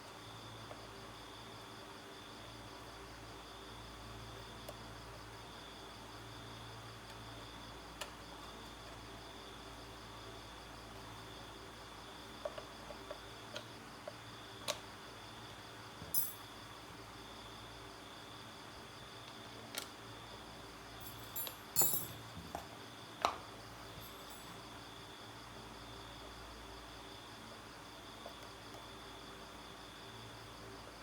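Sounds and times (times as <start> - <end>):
crickets chirring: 0.1 - 31.0.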